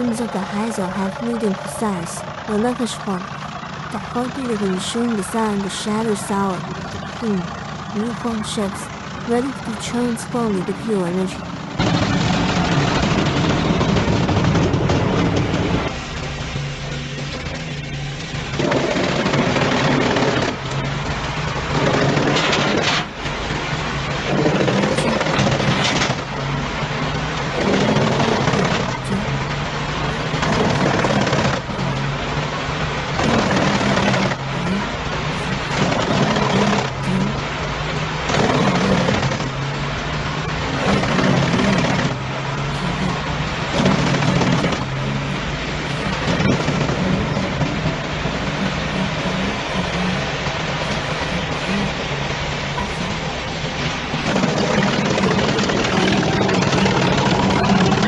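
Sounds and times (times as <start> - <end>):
heavy machinery running: 0.0 - 58.0.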